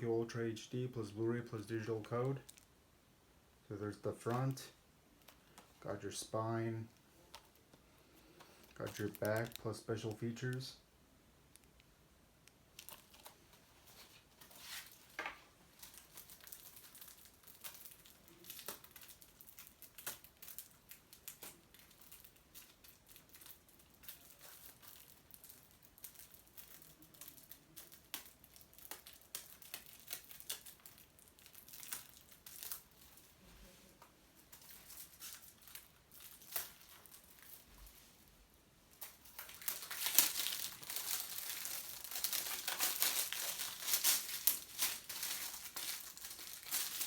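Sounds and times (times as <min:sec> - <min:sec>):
plastic shrink wrap crinkling: 0:01.5 - 0:02.8, 0:03.9 - 0:10.7, 0:12.5 - 0:47.0.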